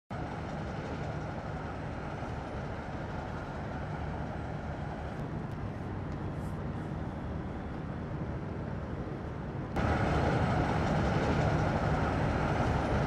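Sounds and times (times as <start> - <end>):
generators running: 0.1 - 7.9, 9.7 - 13.0
diesel engines droning: 0.1 - 13.0.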